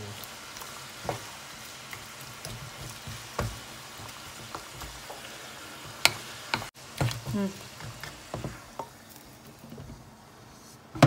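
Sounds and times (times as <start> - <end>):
meat sizzling in a pan: 0.0 - 10.7
wooden spatula stirring: 0.2 - 11.0.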